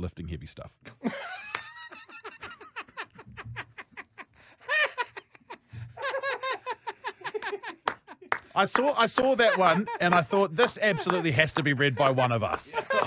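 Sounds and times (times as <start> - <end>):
men laughing hard: 0.9 - 13.0.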